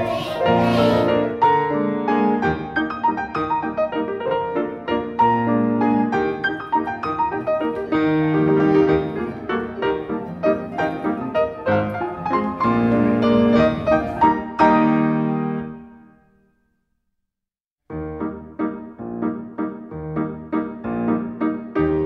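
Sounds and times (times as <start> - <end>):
solo piano playing: 0.0 - 16.4, 17.9 - 22.0.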